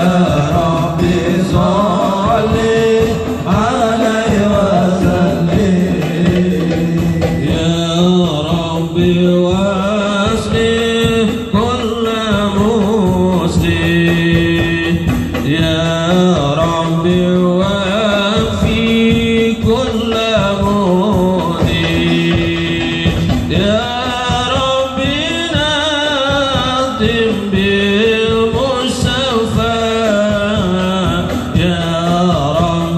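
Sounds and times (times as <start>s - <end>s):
hand-struck frame drums: 0.0s - 32.9s
men singing a devotional chant: 0.0s - 32.9s.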